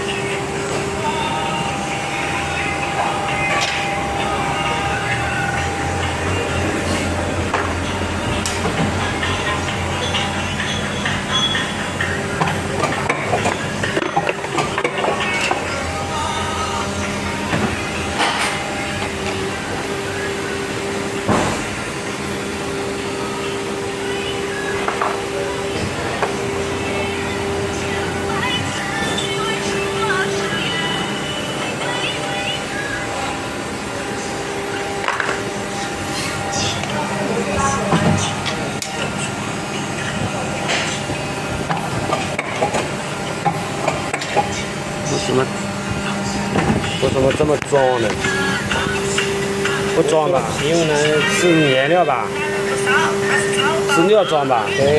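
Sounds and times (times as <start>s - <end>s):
machine humming: 0.0s - 54.9s.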